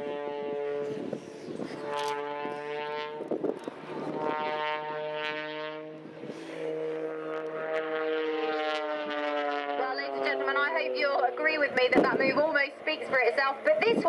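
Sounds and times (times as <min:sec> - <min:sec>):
propeller aircraft engine droning: 0:00.0 - 0:14.0.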